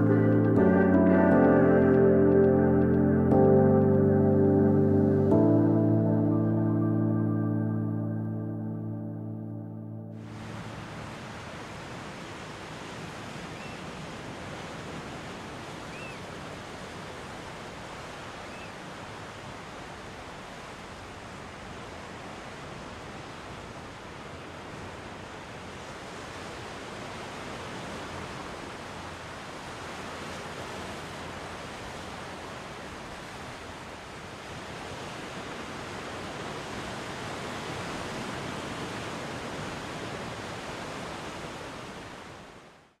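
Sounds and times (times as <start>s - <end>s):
sea surf washing ashore: 0.0s - 8.6s, 10.2s - 42.6s.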